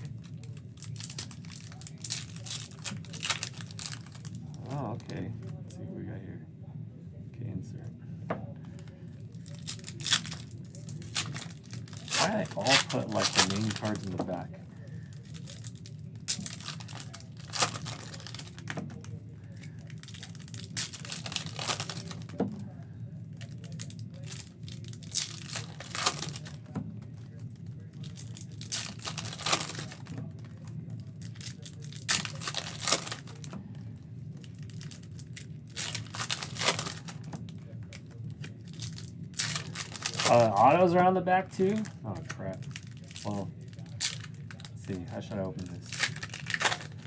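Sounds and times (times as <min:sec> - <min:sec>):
foil wrappers crinkling and tearing: 0:00.0 - 0:05.2, 0:08.7 - 0:47.0.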